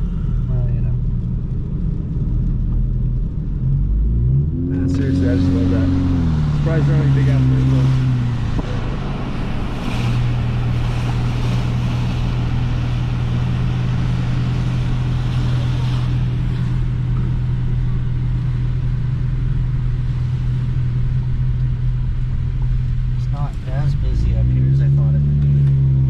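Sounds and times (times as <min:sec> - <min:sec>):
car engine drone: 0:00.0 - 0:26.0
tyre and road noise: 0:00.0 - 0:26.0.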